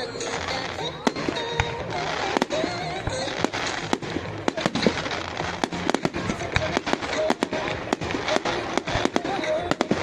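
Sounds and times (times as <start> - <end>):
fireworks bangs and crackling: 0.0 - 10.0
murmur of crowd voices: 0.0 - 10.0.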